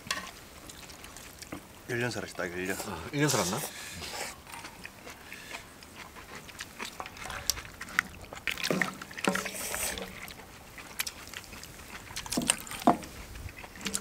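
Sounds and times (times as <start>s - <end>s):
people slurping soup: 2.6s - 14.0s.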